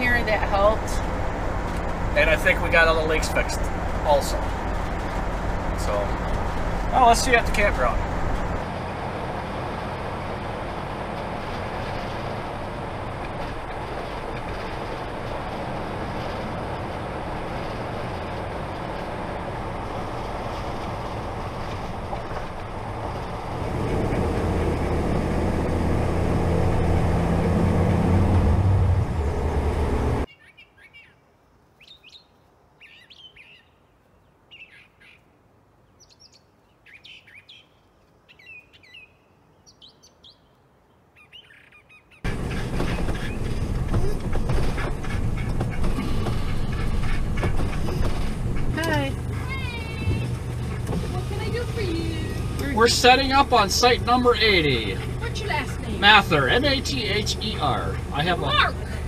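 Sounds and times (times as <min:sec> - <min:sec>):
motorhome road and engine noise: 0:00.0 - 0:30.3, 0:31.8 - 0:59.0
birds chirping: 0:00.0 - 0:59.0.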